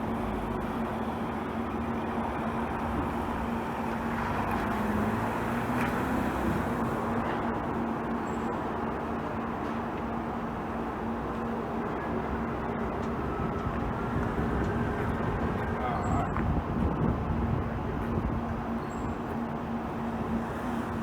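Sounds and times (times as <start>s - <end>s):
machine running with low hum: 0.0s - 21.0s.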